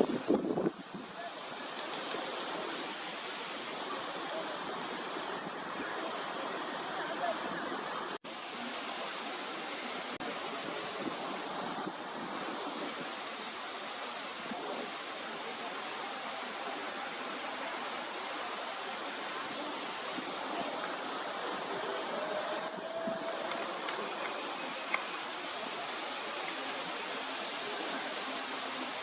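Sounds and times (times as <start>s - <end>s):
steady outdoor rushing noise: 0.0s - 29.0s.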